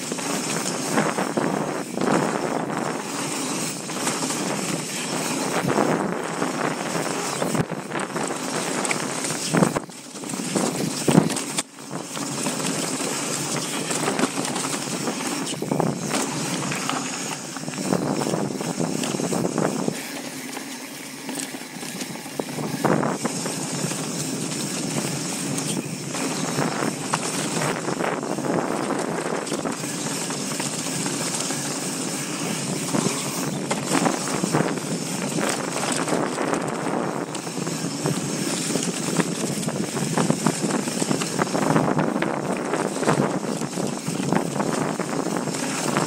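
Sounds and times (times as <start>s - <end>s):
bike rattling over bumps: 0.0s - 46.0s
tyres on dirt trail: 0.0s - 46.0s.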